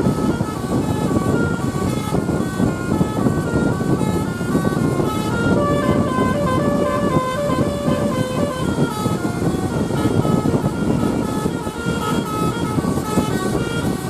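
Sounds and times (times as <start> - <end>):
musical bus horn: 0.5 - 14.0.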